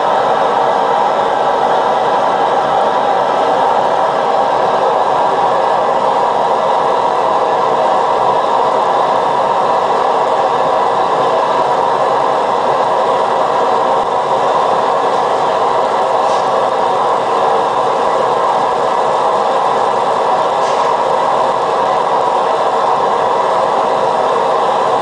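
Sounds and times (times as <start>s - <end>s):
wok burner roaring: 0.0s - 25.0s.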